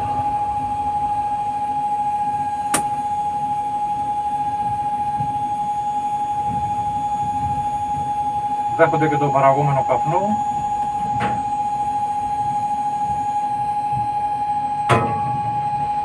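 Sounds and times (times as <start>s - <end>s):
faint low rumble: 0.0s - 16.0s
steady high tone: 0.0s - 16.0s.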